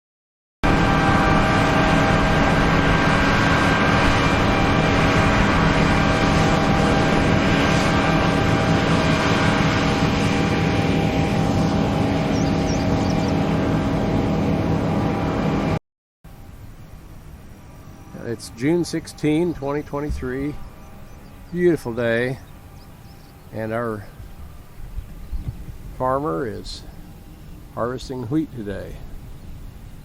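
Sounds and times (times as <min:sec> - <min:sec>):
machine humming: 0:00.6 - 0:30.0.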